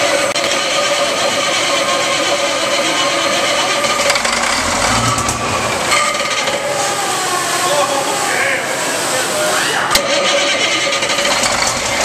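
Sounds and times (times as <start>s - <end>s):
diesel engine running: 0.0s - 12.0s
starting fluid spraying: 0.4s - 12.0s.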